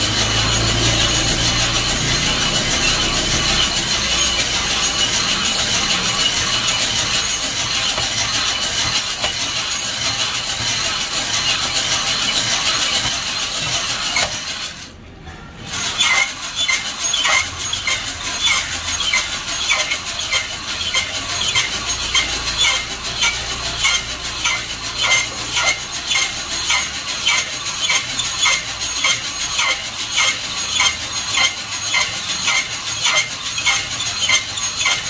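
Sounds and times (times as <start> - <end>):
coffee beans rattling in drum: 0.0 - 15.0, 15.6 - 35.0.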